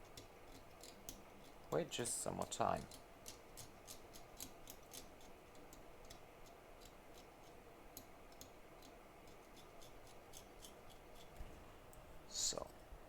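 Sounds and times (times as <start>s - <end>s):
light ticks of small tool work: 0.0s - 12.0s.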